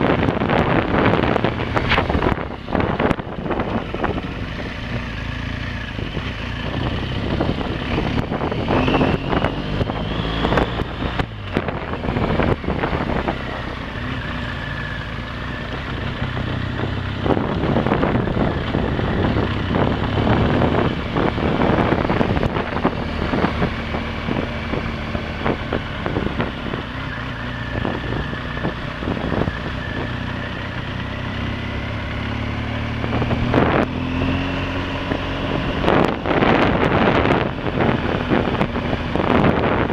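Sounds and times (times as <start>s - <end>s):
wind buffeting microphone: 0.0s - 5.0s, 5.8s - 39.9s
motorcycle engine running: 0.0s - 39.9s.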